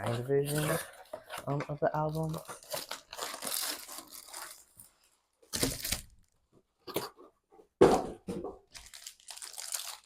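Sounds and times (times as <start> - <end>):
plastic and cardboard crinkling: 0.0 - 7.3, 8.4 - 10.0.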